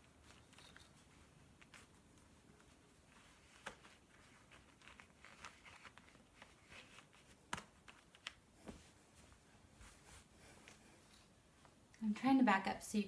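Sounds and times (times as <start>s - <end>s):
fabric rustling: 0.0s - 11.8s.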